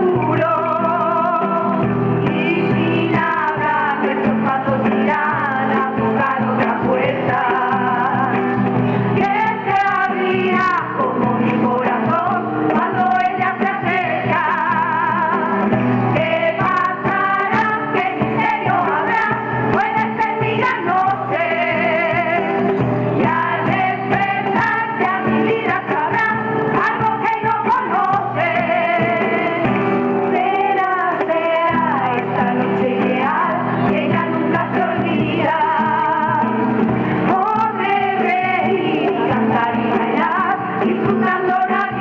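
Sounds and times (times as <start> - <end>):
acoustic guitars: 0.0 - 42.0
hand percussion: 0.0 - 42.0
women's chorus singing: 0.0 - 42.0.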